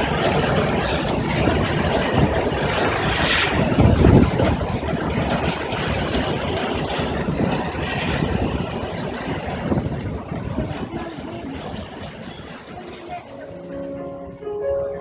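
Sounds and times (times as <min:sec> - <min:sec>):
wake water rushing along hull: 0:00.0 - 0:14.0
low machinery rumble: 0:00.0 - 0:15.0.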